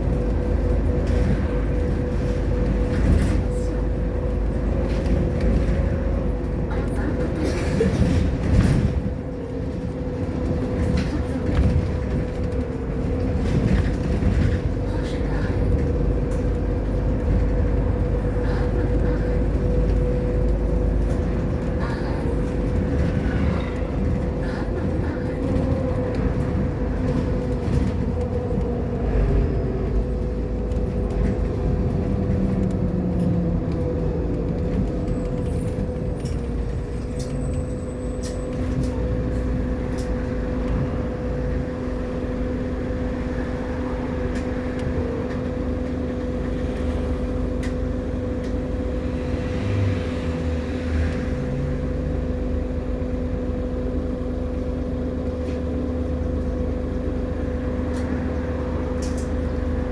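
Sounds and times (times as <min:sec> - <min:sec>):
bus engine drone with whine: 0:00.0 - 0:59.9
road rumble: 0:00.0 - 0:59.9.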